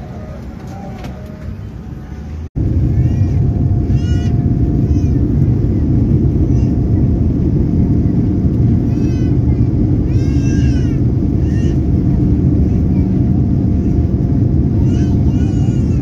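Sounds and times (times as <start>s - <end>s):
airliner engine rumble: 0.0s - 16.0s.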